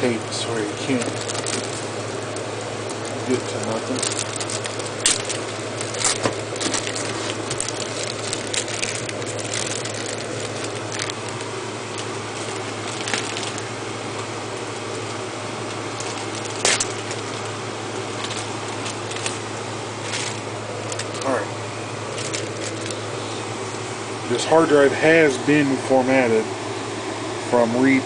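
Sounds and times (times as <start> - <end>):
tape crinkling: 0.0 - 24.8
steady low hum: 0.0 - 28.0.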